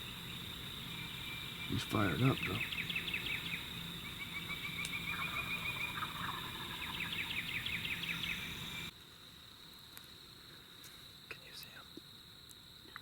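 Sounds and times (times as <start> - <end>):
high insect drone: 0.0 - 13.0
songbirds chirping: 0.0 - 13.0.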